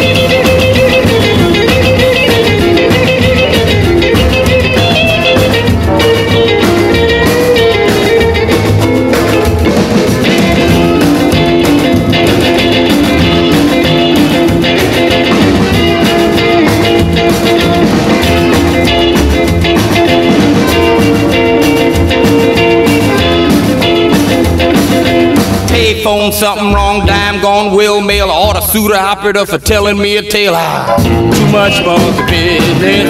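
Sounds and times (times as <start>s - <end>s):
electric guitar lead: 0.0s - 28.9s, 29.6s - 33.0s
rock and roll music: 0.0s - 33.0s.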